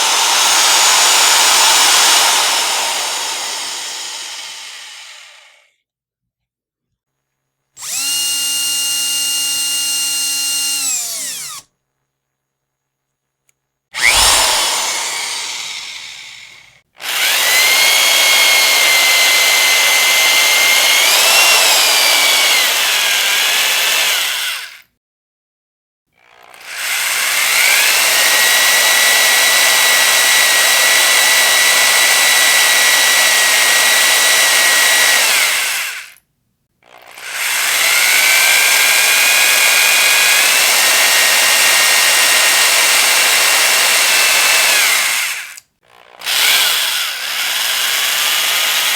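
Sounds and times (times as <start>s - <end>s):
electric power drill whining: 0.0s - 5.6s, 7.8s - 11.7s, 14.0s - 24.8s, 26.4s - 36.2s, 36.8s - 48.9s.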